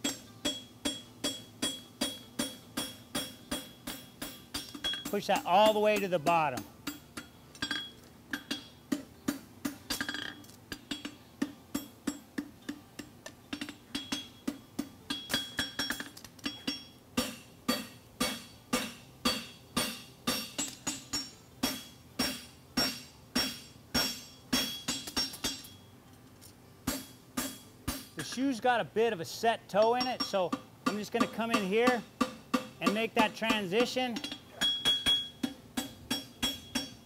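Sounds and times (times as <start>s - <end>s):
hammer striking horseshoe on anvil: 0.0s - 25.8s, 26.8s - 28.6s, 29.8s - 37.0s.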